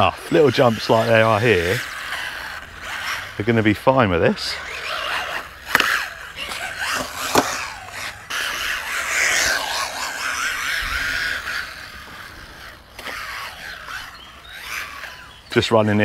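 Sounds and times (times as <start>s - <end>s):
rc car motor whine: 0.0s - 16.0s
tyres sliding on concrete: 0.0s - 16.0s.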